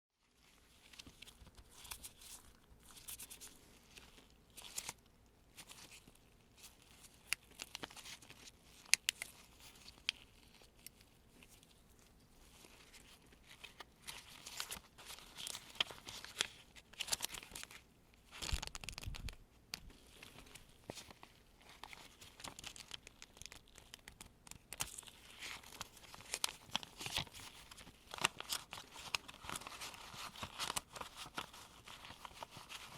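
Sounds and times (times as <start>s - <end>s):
banknotes crinkling and snapping: 0.2s - 32.9s.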